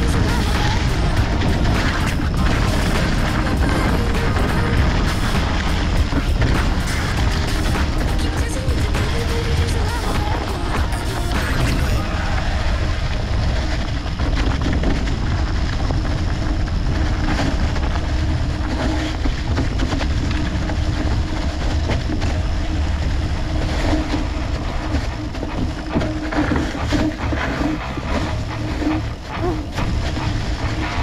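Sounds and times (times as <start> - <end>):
bike clicks and rattles: 0.0 - 12.0, 13.4 - 31.0
bike tyre rolling on dirt: 0.0 - 31.0.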